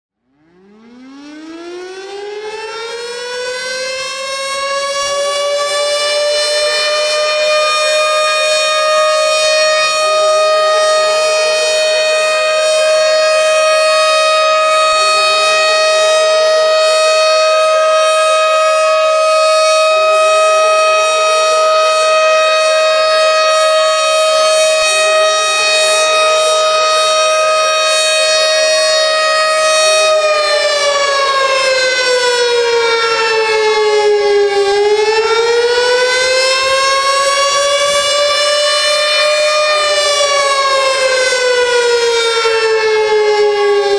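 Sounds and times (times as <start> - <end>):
warning siren high tone: 0.2 - 43.9
faint rising wail: 4.8 - 43.9.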